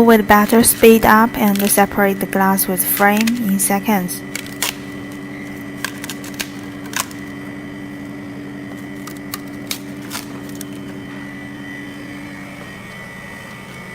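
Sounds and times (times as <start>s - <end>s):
faint high whine: 0.0s - 13.9s
refrigeration unit humming: 0.0s - 13.9s.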